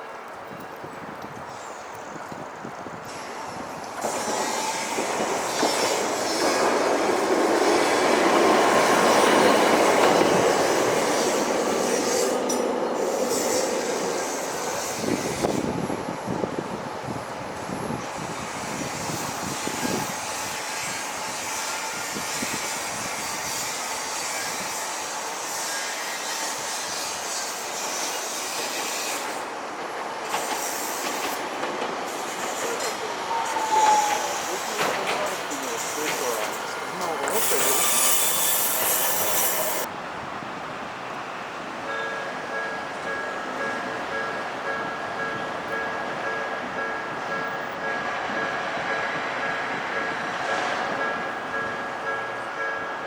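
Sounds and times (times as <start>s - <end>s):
tram running on track: 0.0s - 53.0s.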